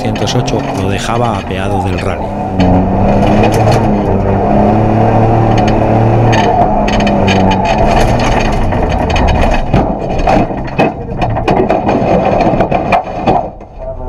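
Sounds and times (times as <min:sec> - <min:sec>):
knocks and rattles: 0:00.0 - 0:14.0
rally car engine running hard: 0:00.0 - 0:14.0.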